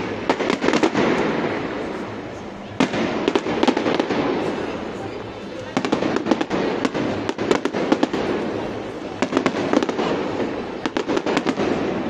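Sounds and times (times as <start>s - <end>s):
fireworks bangs and crackles: 0.0s - 12.0s
rumbling firework bursts: 0.0s - 12.0s.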